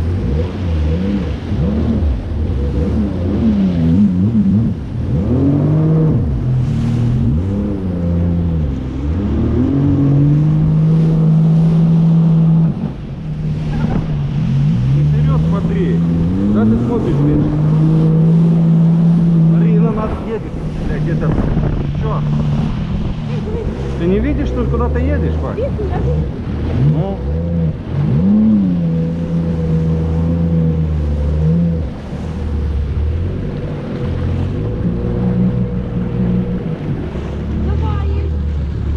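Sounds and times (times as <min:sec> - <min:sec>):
jet ski engine running: 0:00.0 - 0:38.9
water noise: 0:00.0 - 0:38.9
wind: 0:00.0 - 0:38.9.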